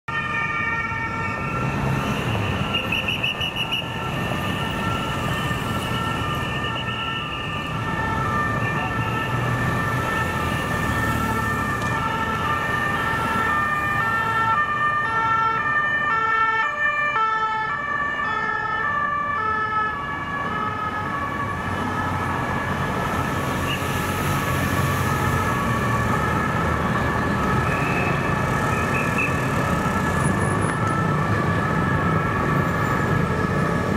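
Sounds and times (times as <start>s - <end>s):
traffic engine and tyre noise: 0.1s - 33.9s
two-tone police sirens: 0.1s - 33.9s.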